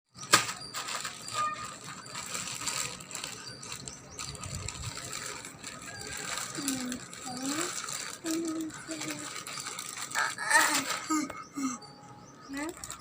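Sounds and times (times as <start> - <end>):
packaging crinkling: 0.2 - 11.4, 12.5 - 13.0
plastic toys clacking: 0.2 - 11.5, 12.5 - 13.0.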